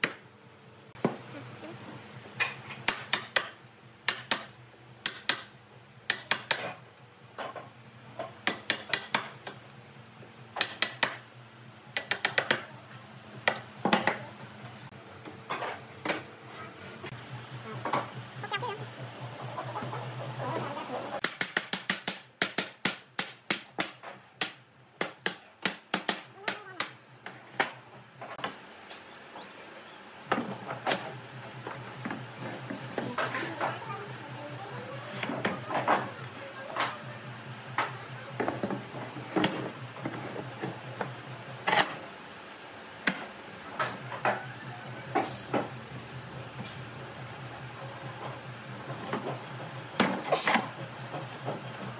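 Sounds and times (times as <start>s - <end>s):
steady low hum: 0.0s - 21.2s, 29.1s - 51.9s.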